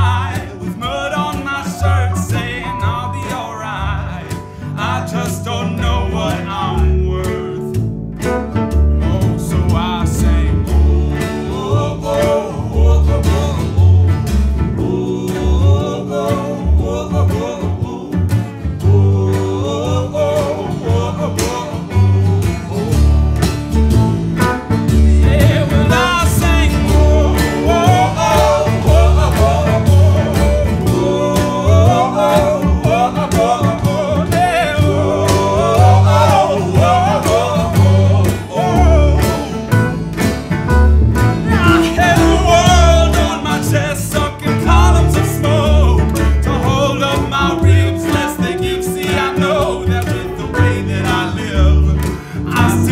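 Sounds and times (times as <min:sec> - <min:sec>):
live country band: 0:00.0 - 0:52.9.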